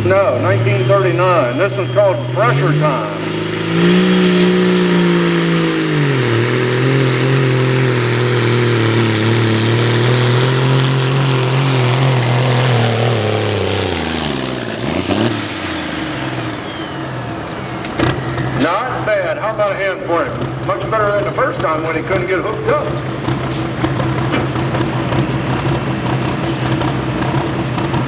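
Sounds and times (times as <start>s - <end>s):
diesel truck engine at full throttle: 0.0s - 28.0s.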